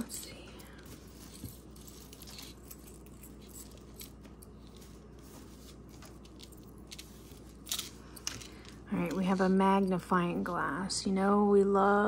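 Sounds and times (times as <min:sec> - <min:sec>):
jewelry packaging rustling: 0:00.0 - 0:10.0
low steady hum: 0:00.0 - 0:12.0.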